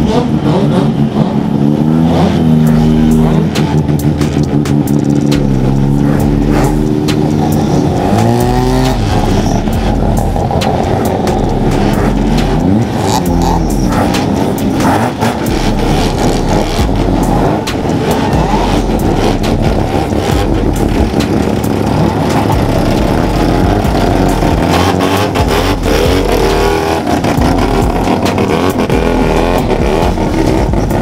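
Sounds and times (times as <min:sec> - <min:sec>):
rotary engine revving: 0:00.0 - 0:31.0.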